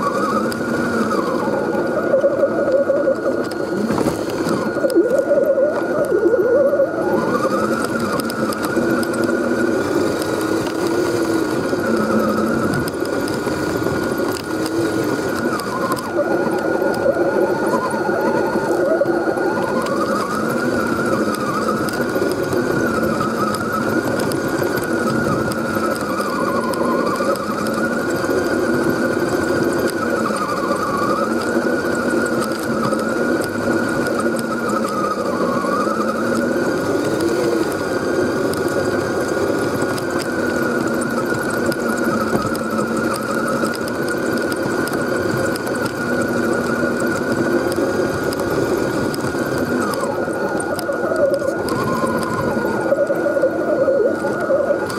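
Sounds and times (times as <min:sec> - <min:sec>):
rc car motor whining: 0:00.0 - 0:54.9.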